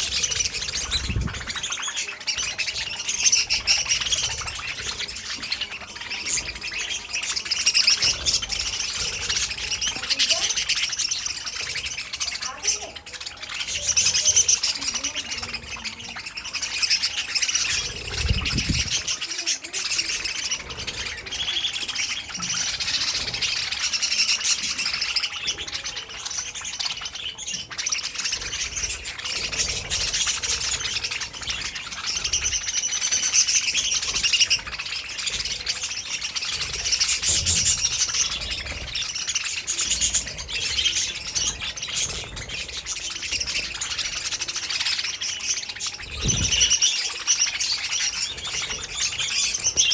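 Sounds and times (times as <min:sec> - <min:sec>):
budgerigars chirping and warbling: 0:00.0 - 0:49.9.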